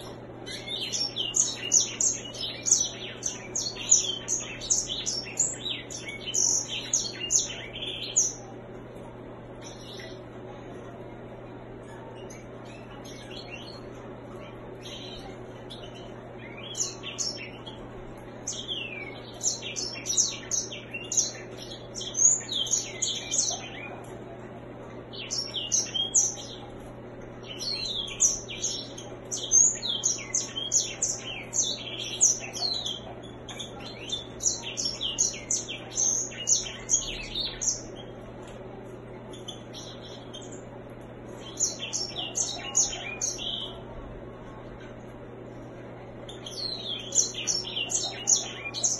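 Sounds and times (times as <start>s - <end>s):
bird twittering song: 0.0s - 8.7s, 9.5s - 11.0s, 11.8s - 24.4s, 25.1s - 43.9s, 46.2s - 48.9s
steady low hum: 0.0s - 48.9s.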